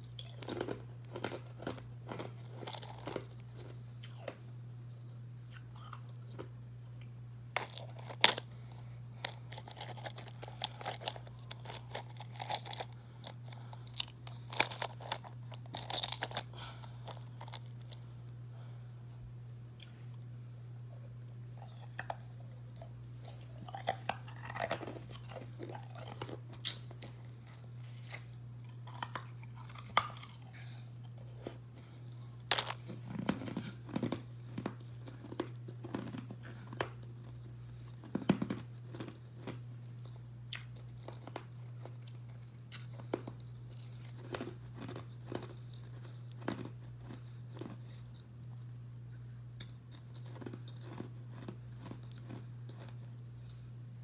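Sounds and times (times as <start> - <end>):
ice being crunched and chewed: 0.0 - 4.5, 5.4 - 6.6, 7.6 - 18.4, 19.1 - 48.3, 49.6 - 54.0
steady low hum: 0.0 - 54.0.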